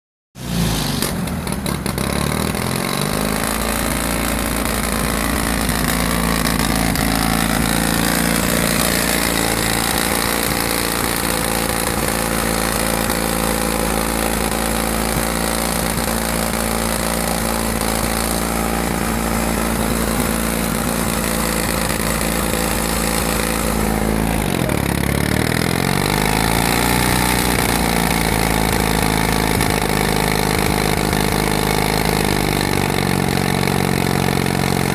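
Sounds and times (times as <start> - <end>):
diesel generator engine running: 0.4 - 34.9.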